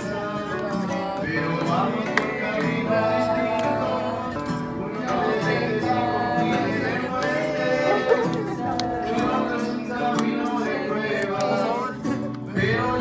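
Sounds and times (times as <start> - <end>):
acoustic guitar: 0.0 - 13.0
group singing worship song: 0.0 - 13.0.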